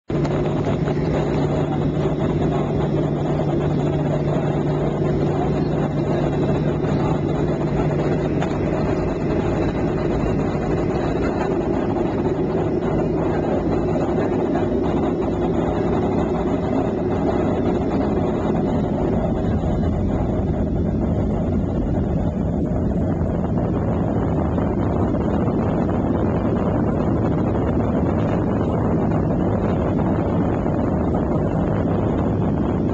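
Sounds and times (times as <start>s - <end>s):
jet engines rumbling in cabin: 0.0s - 32.9s
low hum: 0.0s - 32.9s.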